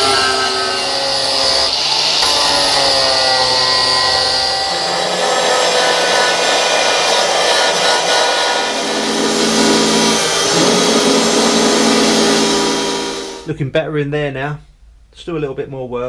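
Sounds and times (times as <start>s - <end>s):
angle grinder grinding metal: 0.0s - 13.5s.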